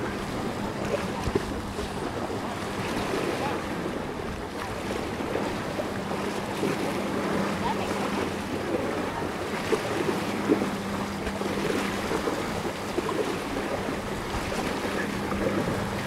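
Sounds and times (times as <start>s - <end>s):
water splashing and lapping: 0.0s - 16.0s.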